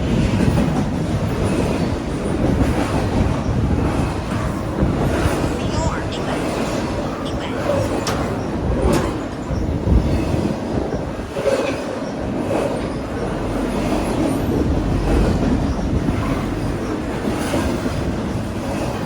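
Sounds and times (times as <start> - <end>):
freight train rumbling past: 0.0 - 19.0
rail joints clickety-clack: 0.0 - 19.0.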